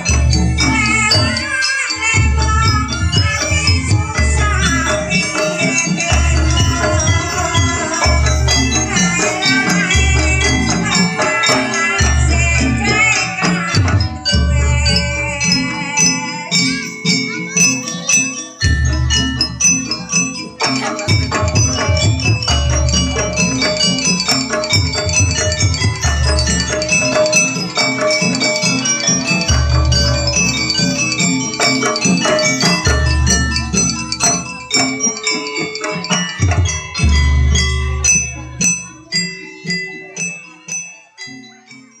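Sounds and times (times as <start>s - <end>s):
gamelan music: 0.0s - 42.0s.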